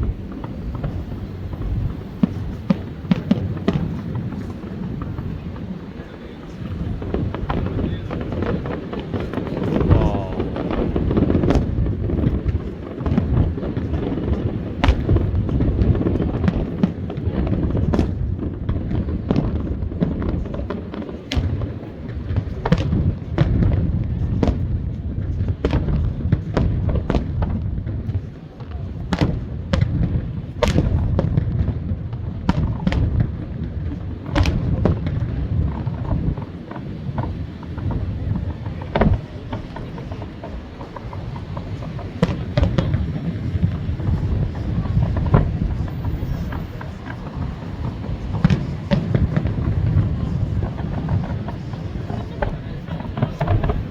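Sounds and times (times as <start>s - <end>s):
fireworks bangs: 0.0s - 53.9s.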